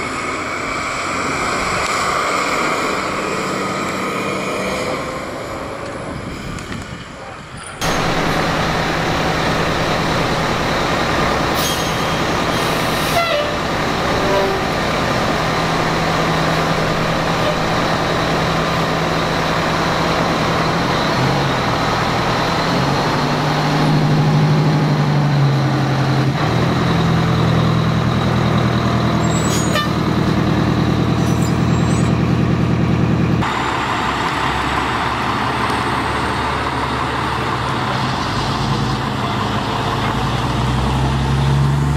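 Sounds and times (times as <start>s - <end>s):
fire truck diesel engine: 0.0s - 41.9s.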